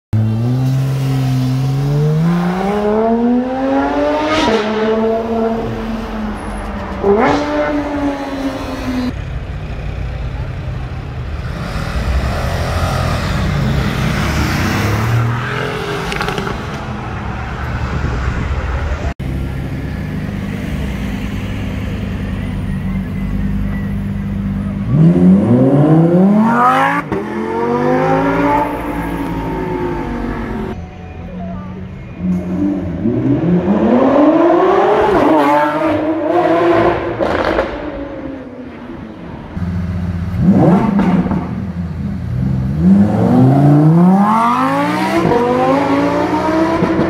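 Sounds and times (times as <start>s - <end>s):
traffic noise: 0.1s - 47.0s.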